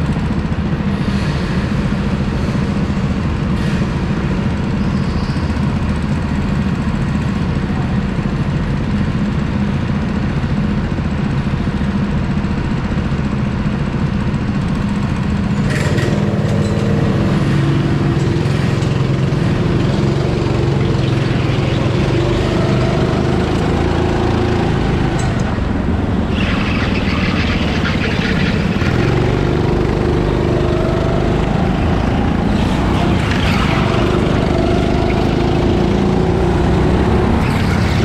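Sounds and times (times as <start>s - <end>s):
go-kart engine running hard: 0.0s - 38.0s.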